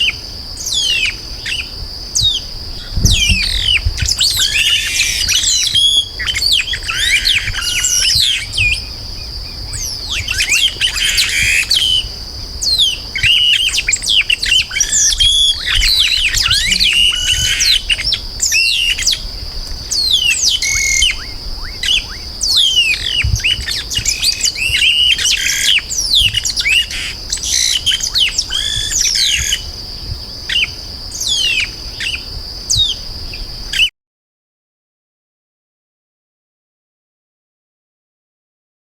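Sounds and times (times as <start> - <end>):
birds chirping and whistling: 0.6 - 29.7, 30.4 - 33.0.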